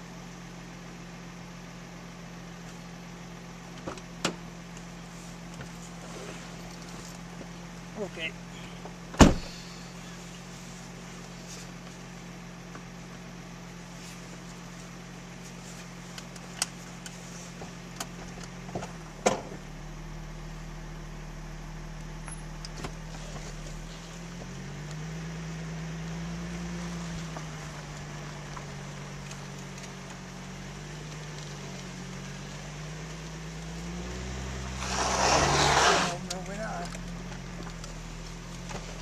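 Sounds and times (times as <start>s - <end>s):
car engine humming: 0.0s - 39.0s.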